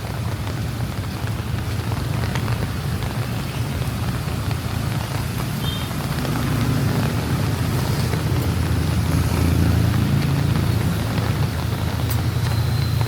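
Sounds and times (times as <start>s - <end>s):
rain hiss: 0.0s - 13.0s
vehicle engine running: 0.0s - 13.0s.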